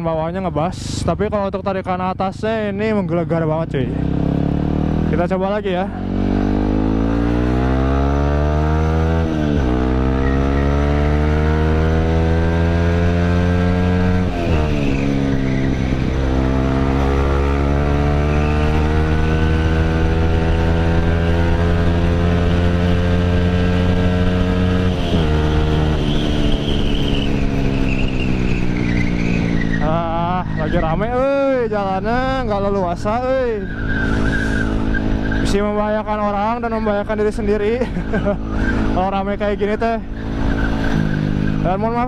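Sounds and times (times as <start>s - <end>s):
motorcycle engine accelerating: 2.4s - 42.0s.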